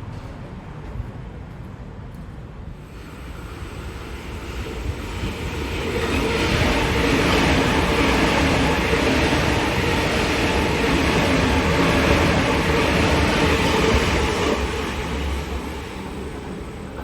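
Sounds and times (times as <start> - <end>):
train hum: 0.0 - 17.0
train wheels rumbling on rails: 0.0 - 17.0.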